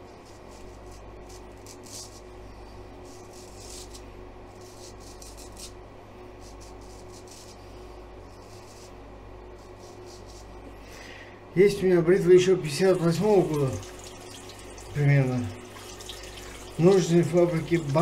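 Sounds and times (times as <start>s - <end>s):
razor scraping stubble: 0.0s - 5.8s, 6.4s - 10.8s, 12.4s - 18.0s.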